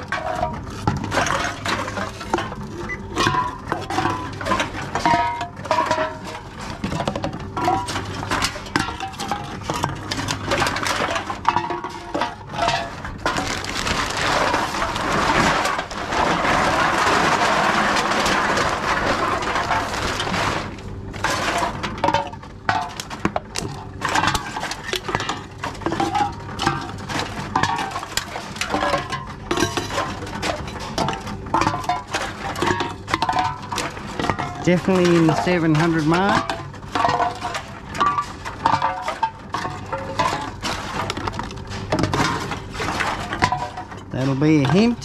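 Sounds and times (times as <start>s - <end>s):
cans clinking and knocking: 0.0s - 45.0s.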